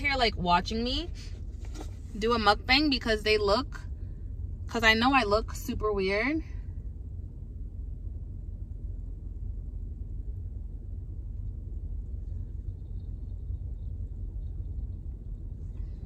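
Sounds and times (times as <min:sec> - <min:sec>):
low rumble inside car cabin: 0:00.0 - 0:16.0.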